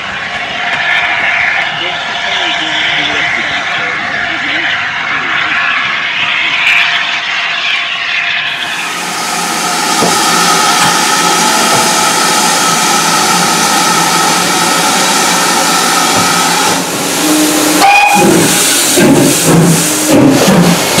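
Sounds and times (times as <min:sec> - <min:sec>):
loud hiss of steam: 0:00.0 - 0:21.0.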